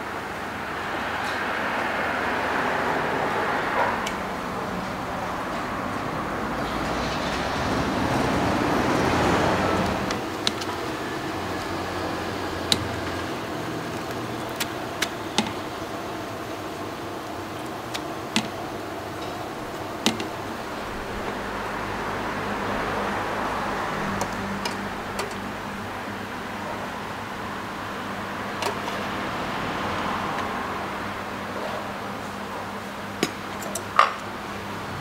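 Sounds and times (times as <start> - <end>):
kitchen rushing hum: 0.0 - 35.0.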